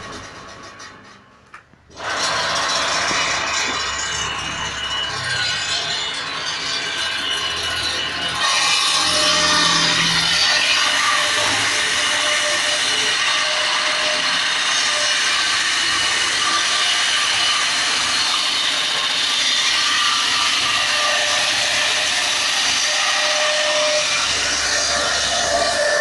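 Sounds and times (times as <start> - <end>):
saw cutting through timber: 0.0 - 26.0.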